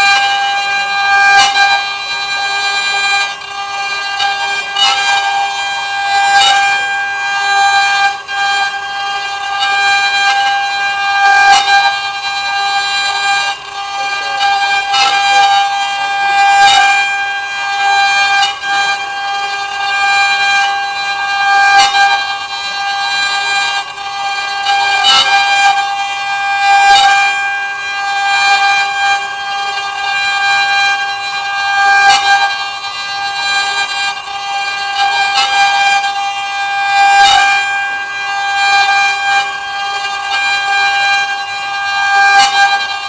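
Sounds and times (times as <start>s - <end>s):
router spindle whining: 0.0s - 43.0s.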